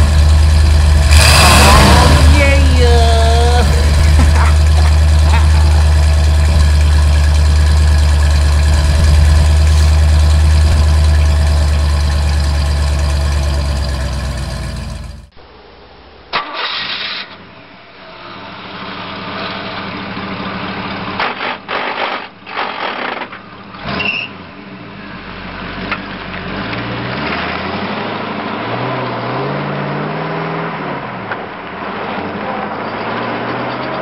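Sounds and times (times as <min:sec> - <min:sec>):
car engine starting and revving: 0:00.0 - 0:15.3, 0:18.2 - 0:34.0.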